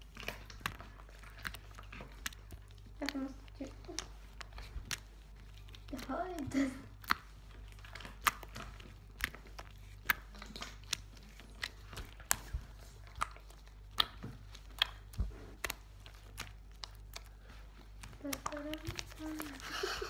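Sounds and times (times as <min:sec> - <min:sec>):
fingers squelching slime: 0:00.0 - 0:20.0.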